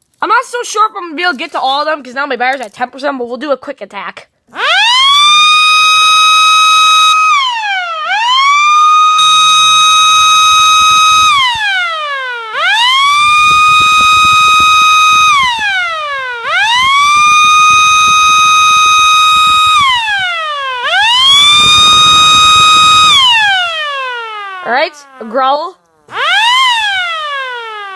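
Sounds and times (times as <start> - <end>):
electric air raid siren winding: 4.5 - 27.9.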